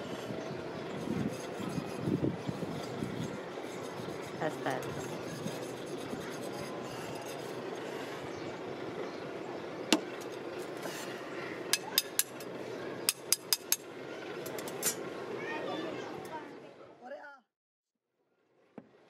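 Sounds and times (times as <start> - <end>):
steady background noise: 0.0 - 17.2.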